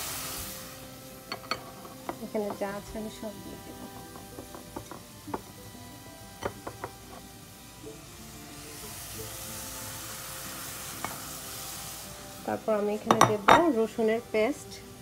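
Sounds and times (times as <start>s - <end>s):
spices sizzling in a pan: 0.0s - 15.0s.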